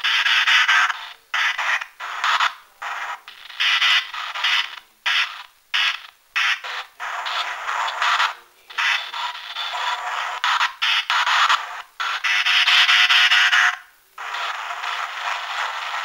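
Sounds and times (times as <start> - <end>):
choppy bursts of radio static: 0.0 - 16.0.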